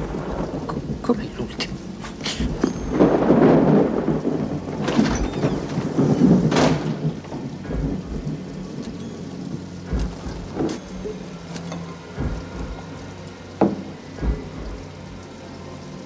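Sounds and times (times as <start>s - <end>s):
heavy rain: 0.0s - 16.0s
rumbling thunder: 0.0s - 16.0s.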